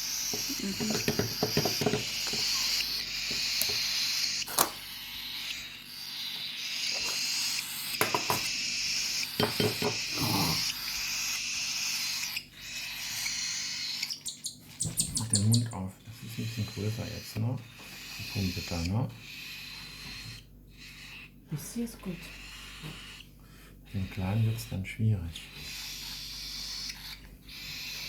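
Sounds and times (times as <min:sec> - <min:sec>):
nestling birds begging hiss: 0:00.0 - 0:28.0.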